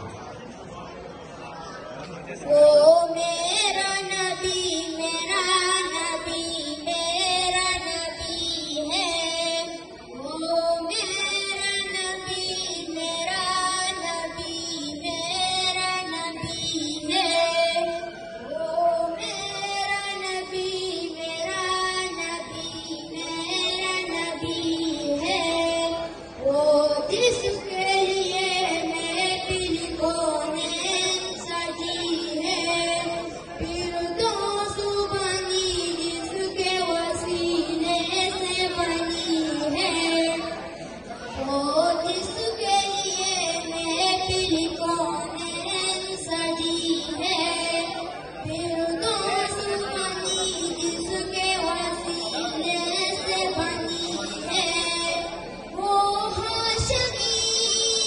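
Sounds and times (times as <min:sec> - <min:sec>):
boy singing into a microphone: 0:02.3 - 0:58.0.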